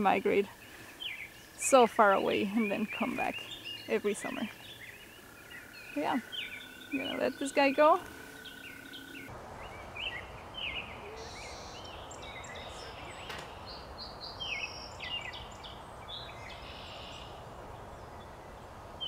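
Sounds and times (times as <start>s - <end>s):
steady background hiss: 0.0s - 19.0s
birds chirping and whistling: 0.3s - 17.3s.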